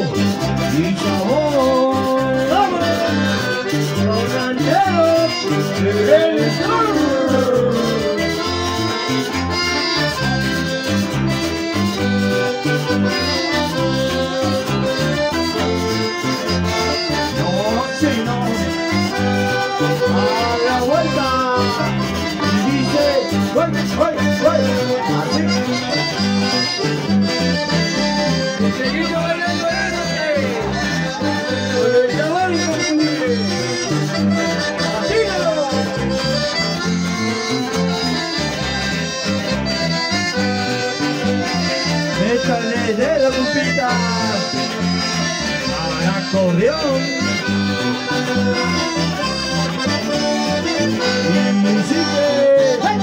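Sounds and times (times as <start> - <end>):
bass: 0.0 - 53.0
piano accordion melody: 0.0 - 53.0
strummed acoustic guitar: 0.0 - 53.0.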